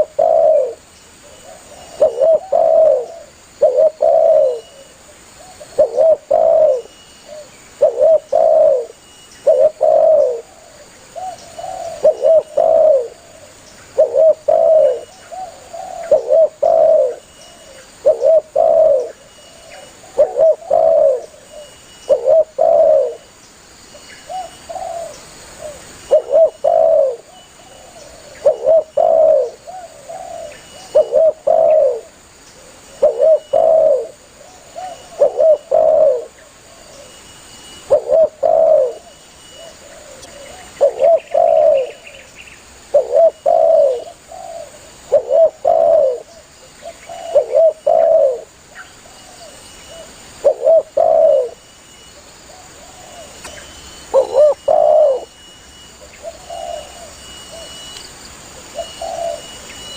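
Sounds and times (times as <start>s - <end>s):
dove cooing: 0.0s - 23.3s, 24.2s - 37.2s, 37.8s - 51.6s, 52.4s - 58.0s, 58.6s - 59.9s.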